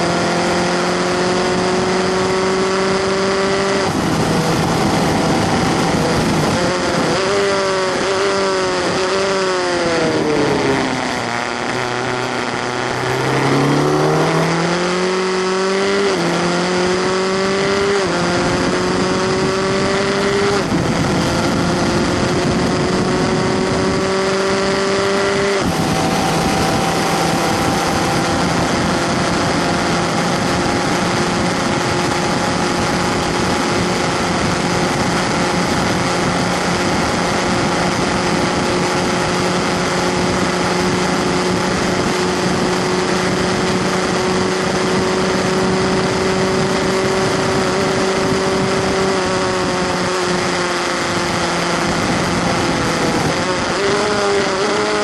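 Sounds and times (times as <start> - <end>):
gear change: 0.0 - 55.0
race car engine at full throttle: 0.0 - 55.0
wind rush: 0.0 - 55.0.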